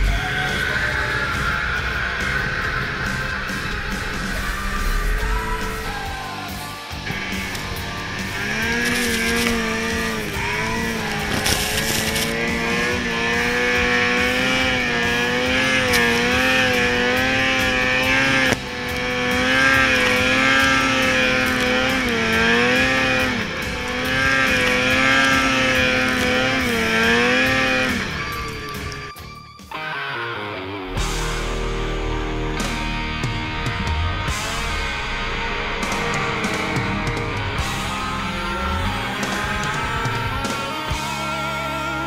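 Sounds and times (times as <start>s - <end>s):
snowmobile engine at high revs: 0.0s - 29.2s, 31.0s - 42.0s.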